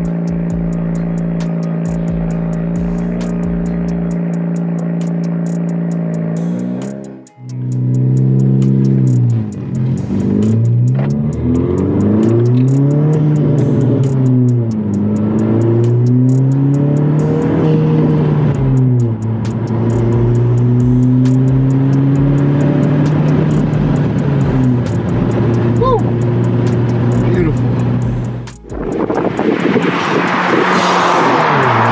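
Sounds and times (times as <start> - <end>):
car engine accelerating: 0.0 - 31.9
intake and turbo noise: 0.0 - 31.9.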